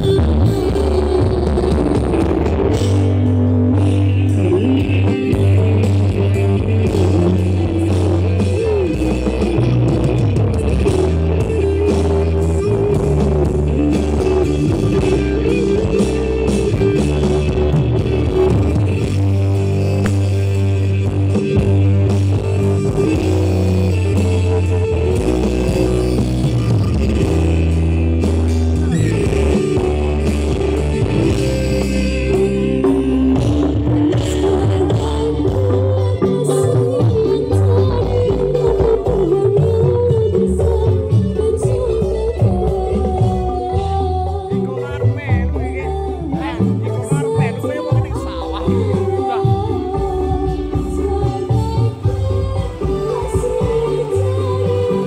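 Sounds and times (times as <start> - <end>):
loud music with heavy bass: 0.0 - 55.0.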